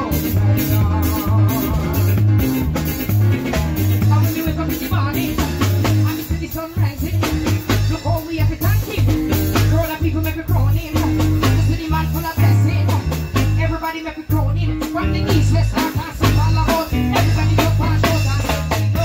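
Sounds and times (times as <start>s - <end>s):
drum kit beat: 0.0s - 19.0s
electric bass guitar line: 0.0s - 19.0s.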